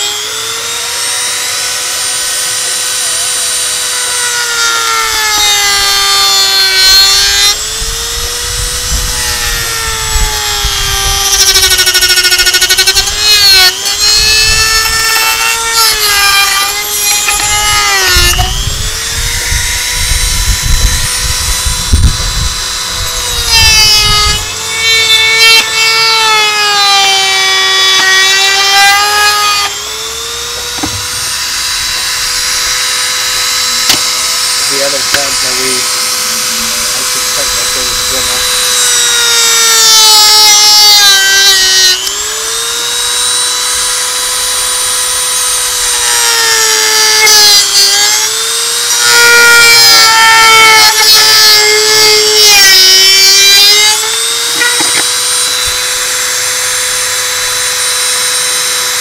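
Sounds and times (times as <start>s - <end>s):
power tool whining: 0.0s - 59.0s
rough metal grinding: 0.0s - 59.0s.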